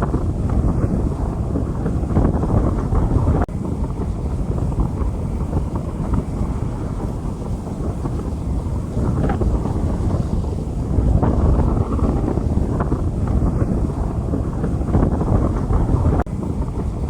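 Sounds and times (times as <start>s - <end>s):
rain on a street: 0.0s - 17.0s
wind buffeting the microphone: 0.0s - 17.0s.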